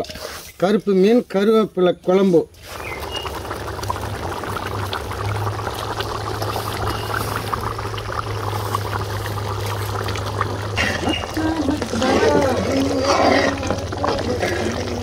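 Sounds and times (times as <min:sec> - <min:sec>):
gravy bubbling at a boil: 0:02.5 - 0:15.0.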